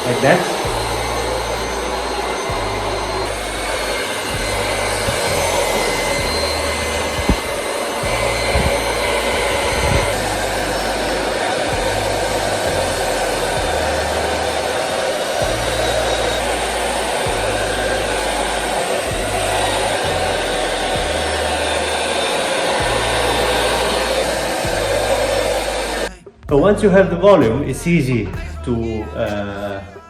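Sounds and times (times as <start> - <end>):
hair dryer blowing: 0.0 - 26.1.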